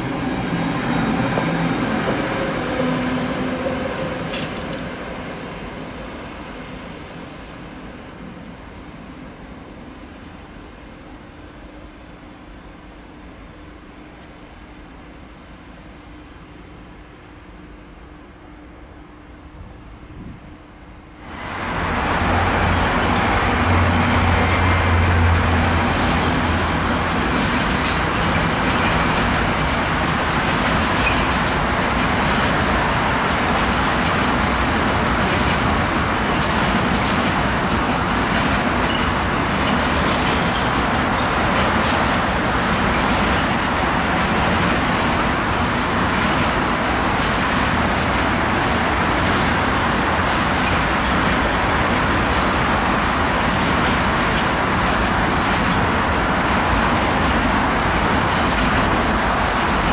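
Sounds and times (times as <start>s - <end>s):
locomotive hum: 0.0s - 59.9s.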